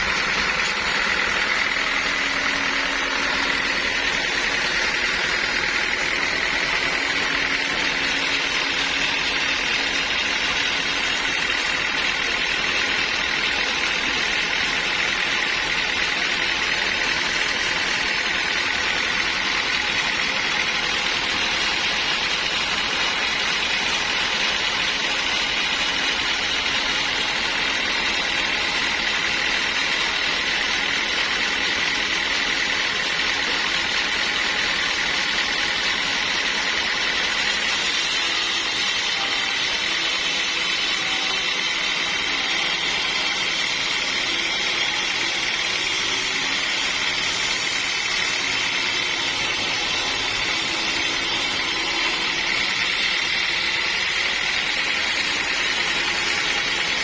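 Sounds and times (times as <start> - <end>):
sawmill saw whining: 0.0 - 57.0.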